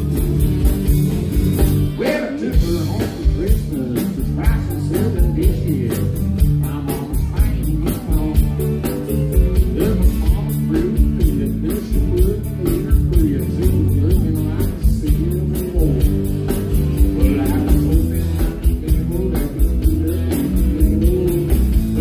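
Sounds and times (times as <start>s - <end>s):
man singing: 0.0s - 1.1s, 1.9s - 22.0s
steady beat: 0.0s - 22.0s
strummed acoustic guitar: 0.0s - 22.0s.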